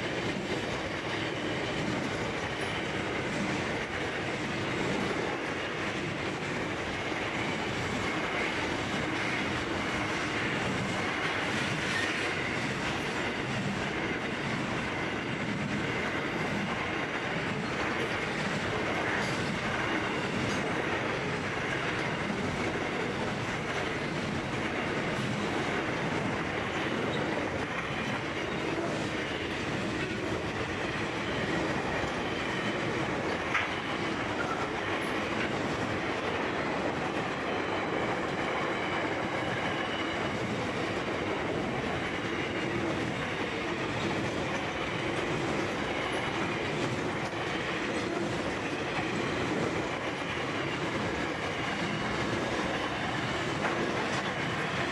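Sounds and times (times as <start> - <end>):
train wheels rolling on rails: 0.0 - 54.9.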